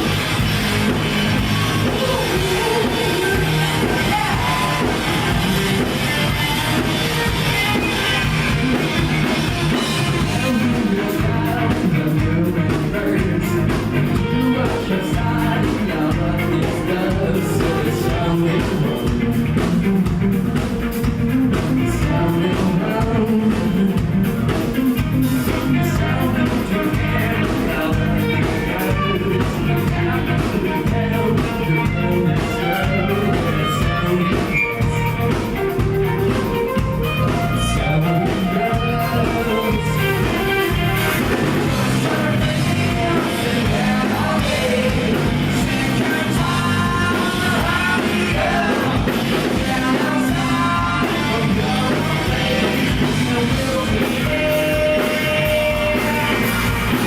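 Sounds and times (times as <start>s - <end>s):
rock band playing live: 0.0s - 57.0s
person singing: 0.8s - 19.3s, 21.8s - 57.0s.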